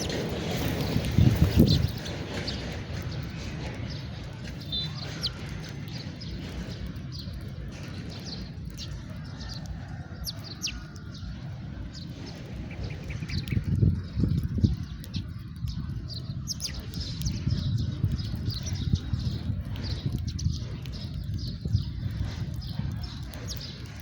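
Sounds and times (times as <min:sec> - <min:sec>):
low background rumble: 0:00.0 - 0:24.0
sparrows chirping: 0:00.0 - 0:24.0.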